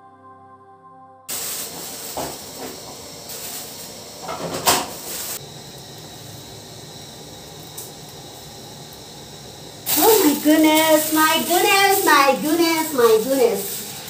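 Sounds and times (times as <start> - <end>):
loud steady hiss: 1.3 - 14.0.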